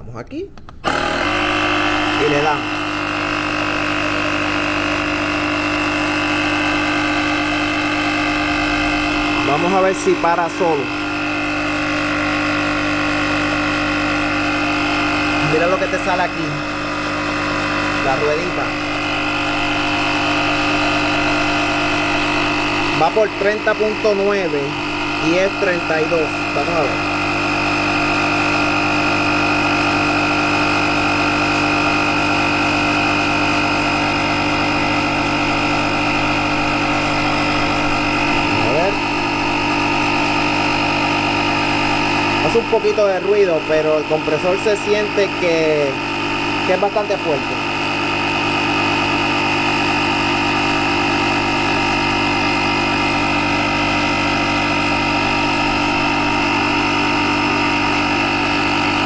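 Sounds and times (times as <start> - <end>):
air compressor running: 0.7 - 59.0.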